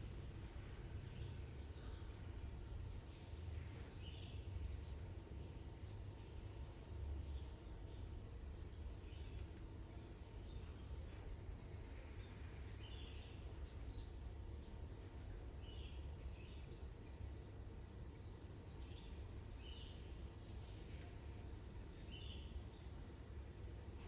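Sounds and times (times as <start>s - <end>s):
low background rumble: 0.0s - 24.0s
small birds chirping: 0.0s - 24.0s.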